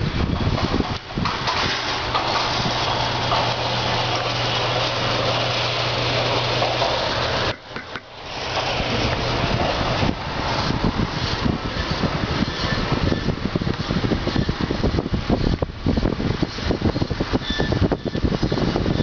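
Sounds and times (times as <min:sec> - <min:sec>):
wide rushing noise: 0:00.0 - 0:18.0
steady low hum: 0:00.0 - 0:19.0.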